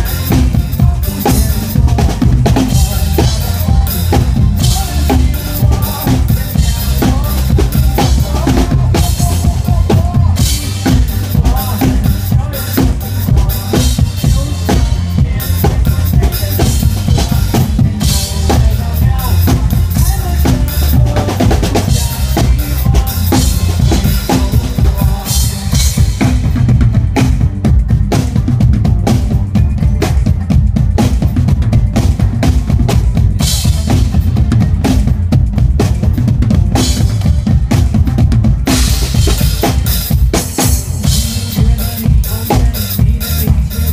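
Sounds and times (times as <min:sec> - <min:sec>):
drum kit playing: 0:00.0 - 0:43.9
pop backing track: 0:00.0 - 0:43.9.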